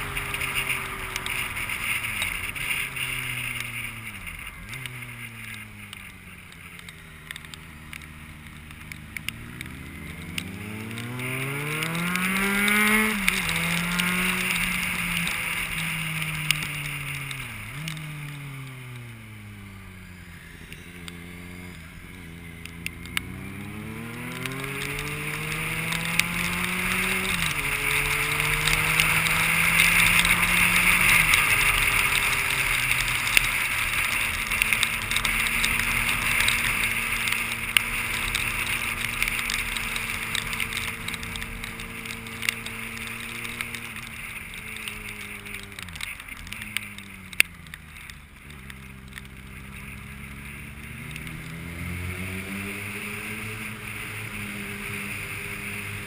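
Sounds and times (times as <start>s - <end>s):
vehicle engine under load: 0.0s - 56.0s
wind and road noise: 0.0s - 56.0s.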